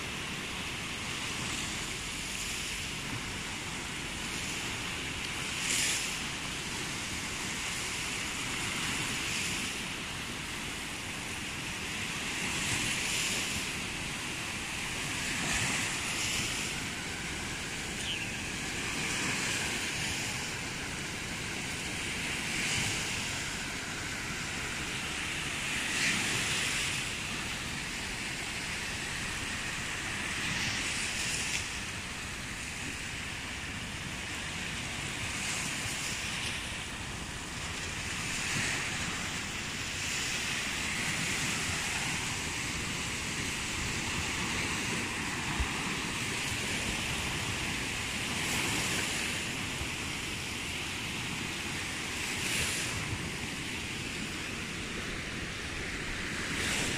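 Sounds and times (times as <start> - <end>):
small waves washing on beach: 0.0 - 56.9.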